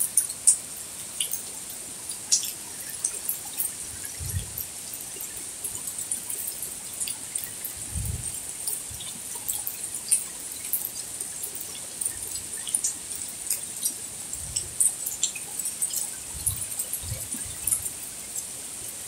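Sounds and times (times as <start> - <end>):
rain falling on plants and paving: 0.0 - 19.0
water drips and splashes: 0.0 - 19.0.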